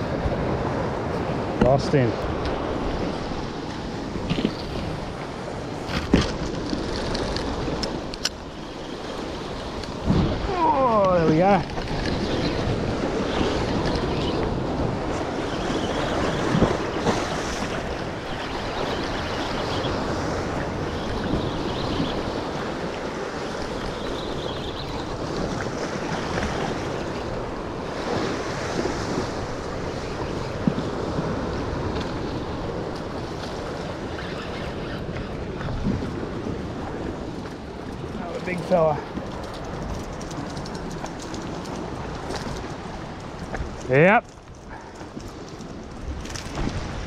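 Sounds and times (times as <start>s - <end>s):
surf washing against rock: 0.0s - 47.0s
wind noise on microphone: 0.0s - 47.0s.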